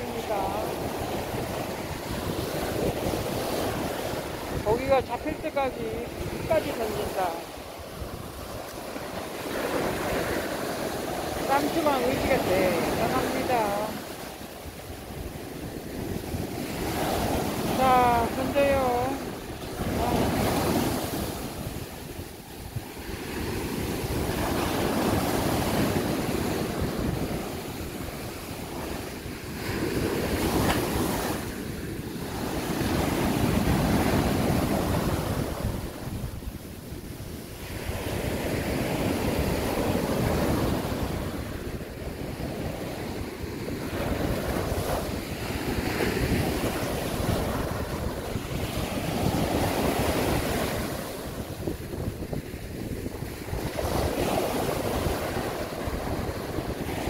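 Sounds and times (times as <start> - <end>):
surf breaking on a beach: 0.0 - 57.0
wind buffeting the microphone: 0.0 - 57.0.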